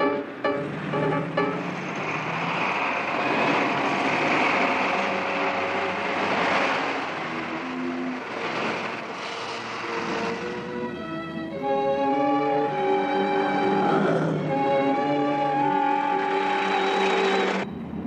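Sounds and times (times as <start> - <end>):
loud rushing vehicle noise: 0.0 - 18.0
orchestral score: 0.0 - 18.0.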